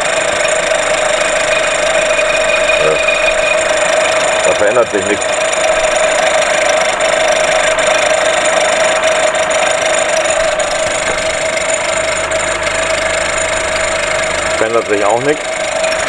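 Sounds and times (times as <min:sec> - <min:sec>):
engine idling with metallic clatter: 0:00.0 - 0:16.0
steady whine: 0:00.0 - 0:16.0.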